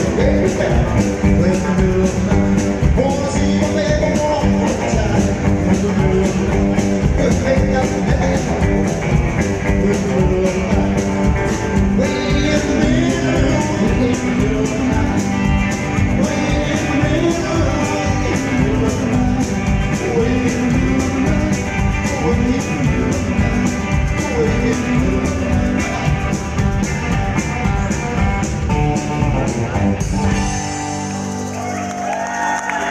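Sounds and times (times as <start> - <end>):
rockabilly band playing: 0.0 - 32.9.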